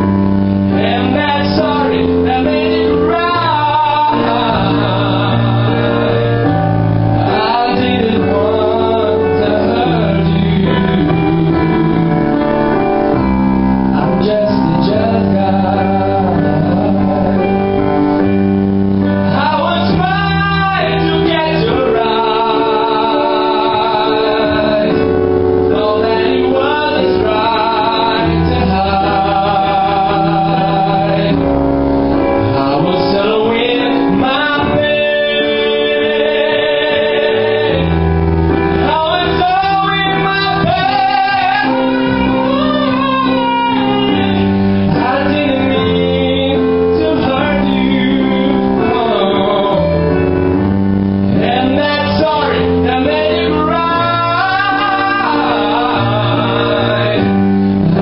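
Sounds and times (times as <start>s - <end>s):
electronic keyboard chords: 0.0s - 58.0s
man singing into microphone: 0.0s - 58.0s.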